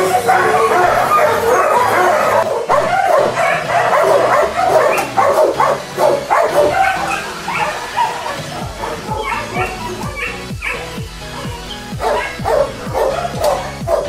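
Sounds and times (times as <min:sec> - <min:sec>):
dogs barking and yipping: 0:00.0 - 0:14.0.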